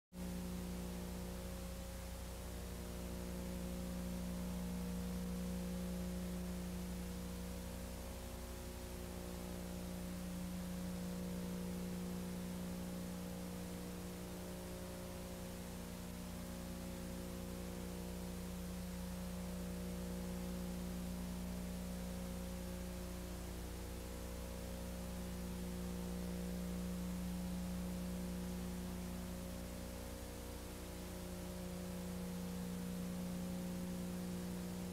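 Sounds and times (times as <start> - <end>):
electrical hum with hiss: 0.2 - 34.9.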